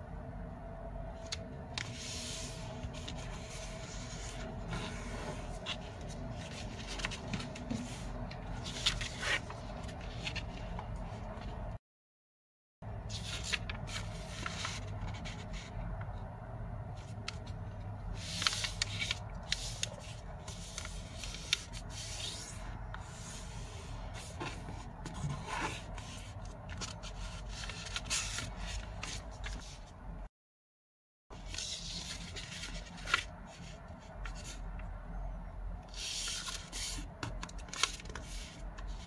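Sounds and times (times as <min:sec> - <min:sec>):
paper rustling and folding: 0:01.2 - 0:11.6, 0:13.1 - 0:16.2, 0:17.0 - 0:29.9, 0:31.3 - 0:34.7, 0:35.9 - 0:39.0.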